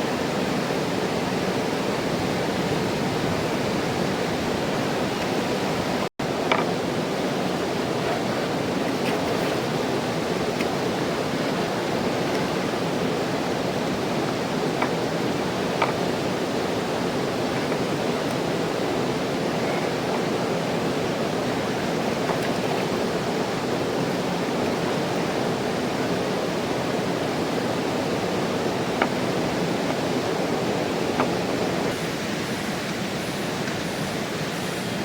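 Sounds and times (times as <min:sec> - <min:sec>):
river rushing: 0:00.0 - 0:35.0.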